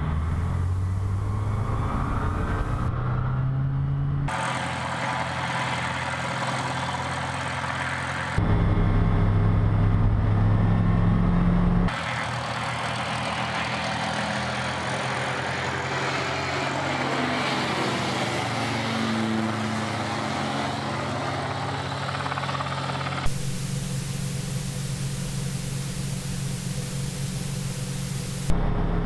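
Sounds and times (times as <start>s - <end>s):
light aircraft engine and propeller: 0.0s - 3.1s, 4.3s - 29.0s.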